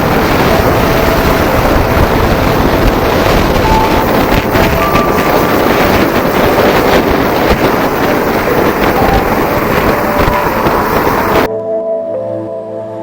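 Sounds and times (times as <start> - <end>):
motorcycle engine running: 0.0 - 11.5
wind buffeting microphone: 0.0 - 11.5.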